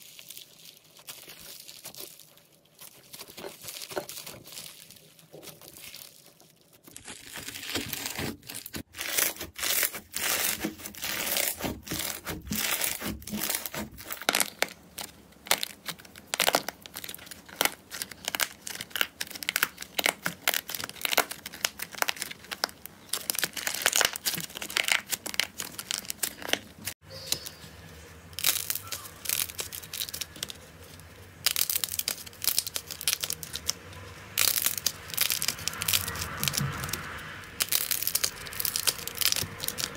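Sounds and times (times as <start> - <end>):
slime crackling and squelching: 0.0 - 39.9.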